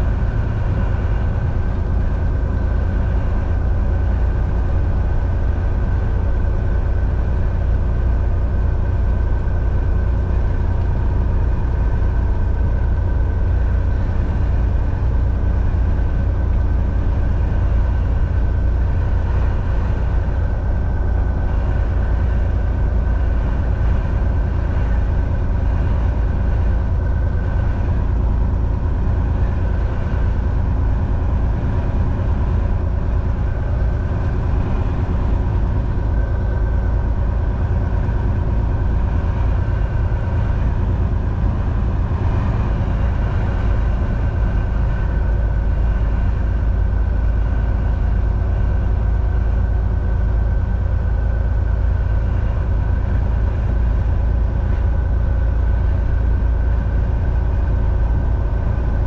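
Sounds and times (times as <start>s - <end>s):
road and tyre noise: 0.0s - 59.0s
truck diesel engine running: 0.0s - 59.0s.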